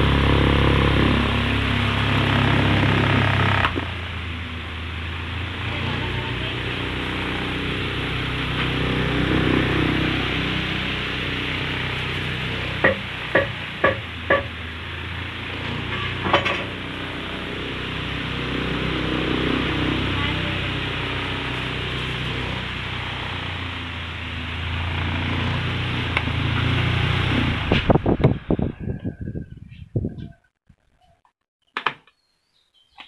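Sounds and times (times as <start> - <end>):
table fan running: 0.0 - 29.2.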